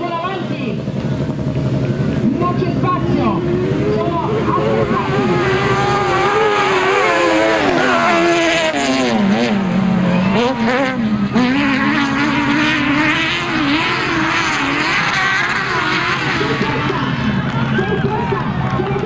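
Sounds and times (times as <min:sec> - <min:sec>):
race car engines revving: 0:00.0 - 0:19.0
race car passing by: 0:00.2 - 0:19.0.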